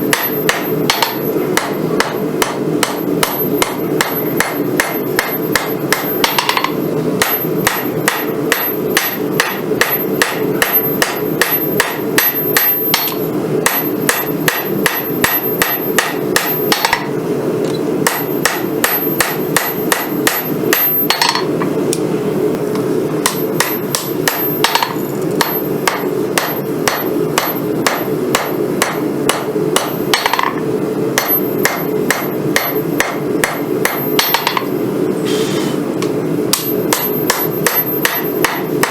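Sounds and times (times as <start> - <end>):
hammer striking metal on anvil: 0.0 - 17.1, 18.0 - 21.7, 23.2 - 30.6, 31.2 - 34.8, 36.5 - 38.9.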